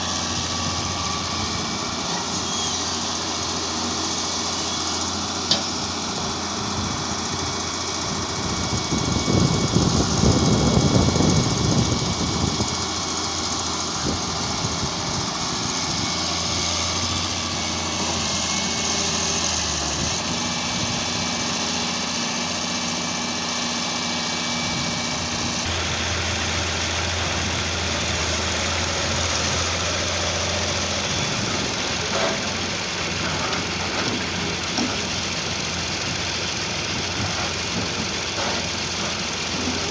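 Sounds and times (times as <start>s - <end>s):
heavy machinery engines running: 0.0s - 39.9s.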